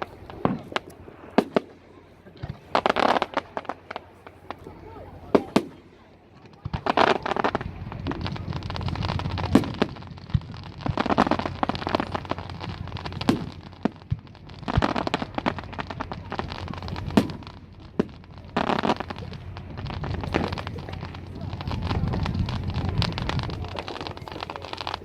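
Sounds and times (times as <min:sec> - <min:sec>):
firework bangs: 0:00.0 - 0:25.0
fireworks crackling: 0:00.0 - 0:25.0.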